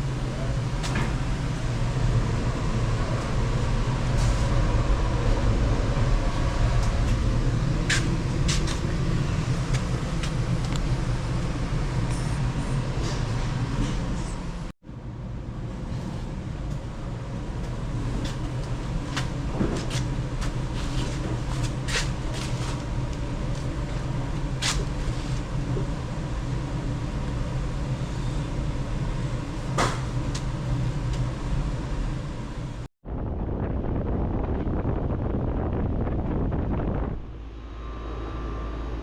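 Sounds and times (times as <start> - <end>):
low machine hum: 0.0 - 39.0.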